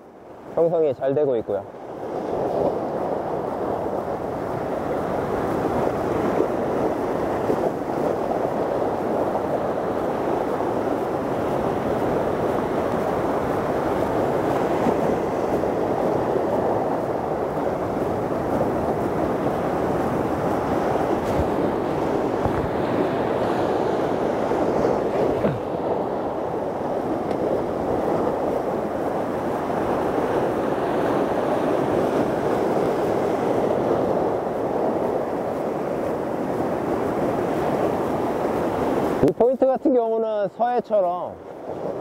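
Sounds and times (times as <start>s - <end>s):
surf breaking over rocks: 0.5s - 42.0s
wind on microphone: 1.6s - 39.6s, 40.2s - 42.0s.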